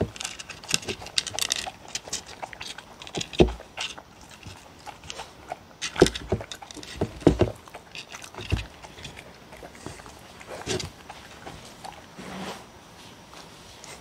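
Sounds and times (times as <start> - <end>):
dogs chewing and licking: 0.0 - 12.2.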